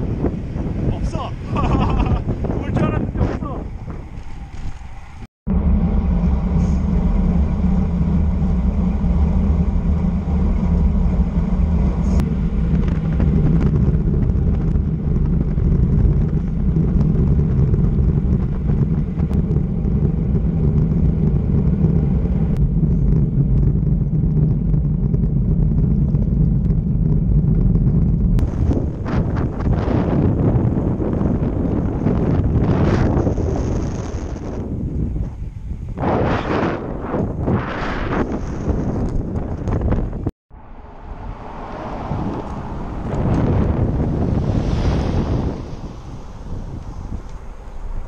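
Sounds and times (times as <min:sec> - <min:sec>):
bike tyre rumble on asphalt: 0:00.0 - 0:48.0
wind buffeting microphone: 0:00.0 - 0:48.0.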